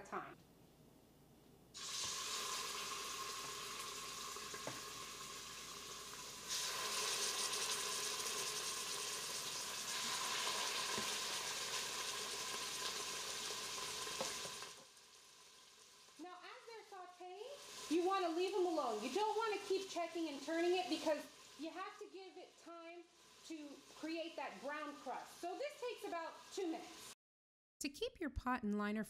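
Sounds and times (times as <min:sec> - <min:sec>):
meat sizzling in hot oil: 0:01.8 - 0:27.2.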